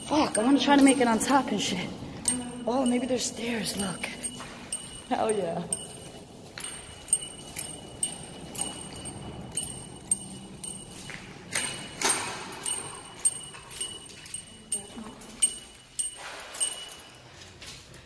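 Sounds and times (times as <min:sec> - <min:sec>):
footsteps on concrete floor: 0:00.0 - 0:18.0
light metallic jingle: 0:00.0 - 0:18.0.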